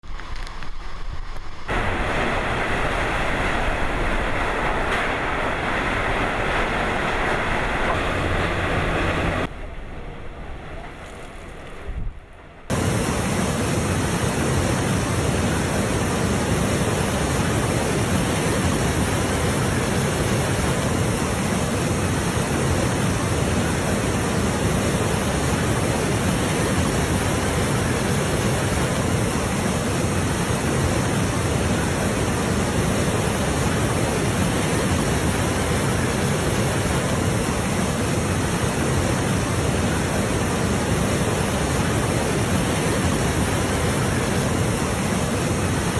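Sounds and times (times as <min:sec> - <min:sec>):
rushing floodwater roar: 0:00.0 - 0:45.9.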